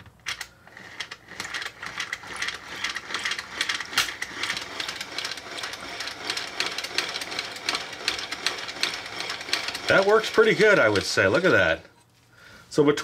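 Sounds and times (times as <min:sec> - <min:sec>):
small motor buzzing with plastic rattle: 0:00.7 - 0:11.8.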